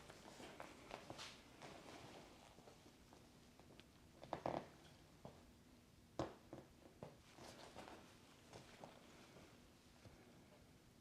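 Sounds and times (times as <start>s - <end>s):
faint rustling: 0.0s - 5.4s, 7.2s - 10.7s.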